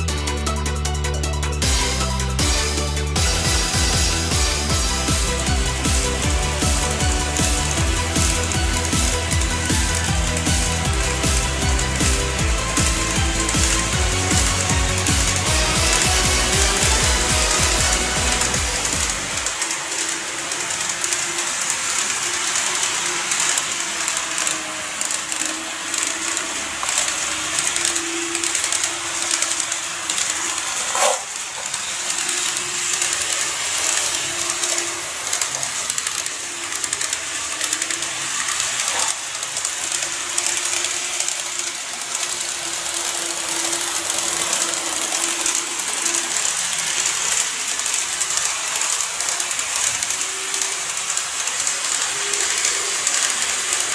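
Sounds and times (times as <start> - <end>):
model train motor whirring: 0.0 - 53.9.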